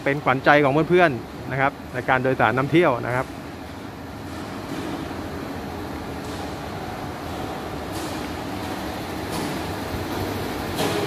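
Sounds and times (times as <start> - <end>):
machinery rumbling hum: 0.0 - 11.0.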